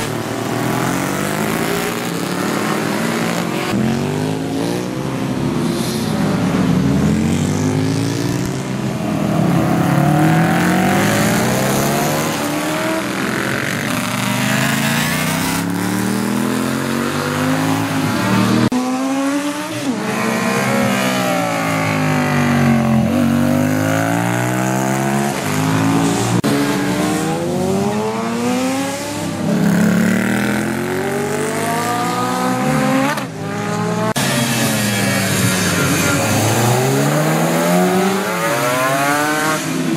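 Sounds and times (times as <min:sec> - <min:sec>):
racing motorcycles passing: 0:00.0 - 0:39.9.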